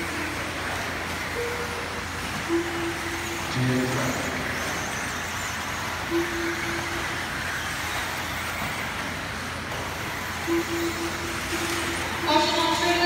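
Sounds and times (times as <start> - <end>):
rc car motor whine: 0.0 - 13.0
steady held tone: 0.0 - 13.0.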